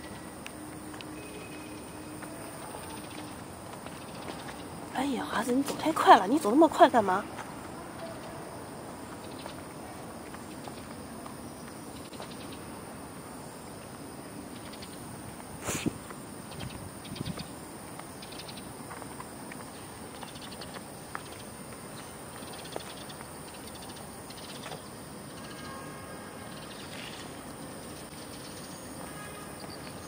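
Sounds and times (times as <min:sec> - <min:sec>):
faint insect chirping: 0:00.0 - 0:30.0
steady background hiss: 0:00.0 - 0:30.0.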